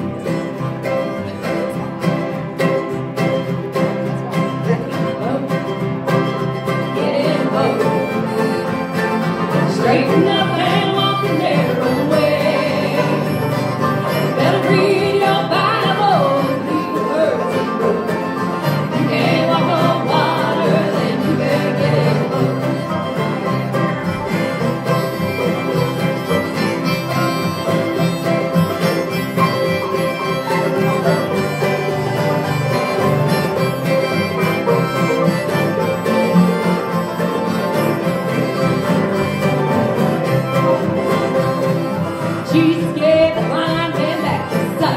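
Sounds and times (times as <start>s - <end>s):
bluegrass band playing: 0.0s - 44.9s.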